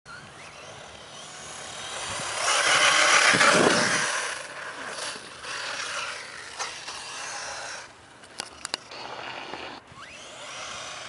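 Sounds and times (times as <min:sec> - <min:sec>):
model buggy motor and tyres: 0:00.1 - 0:11.0.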